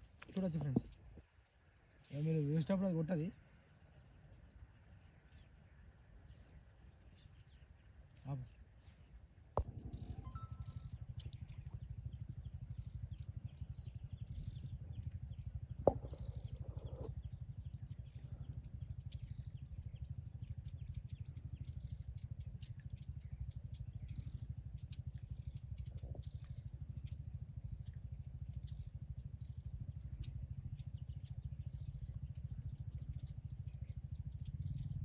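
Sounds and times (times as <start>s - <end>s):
low pulsing engine-like drone: 0.0s - 35.0s.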